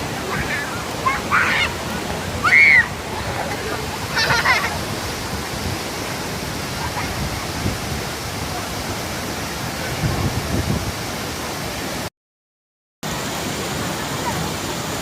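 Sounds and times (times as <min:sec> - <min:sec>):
waterfall rushing: 0:00.0 - 0:12.1, 0:13.0 - 0:15.0.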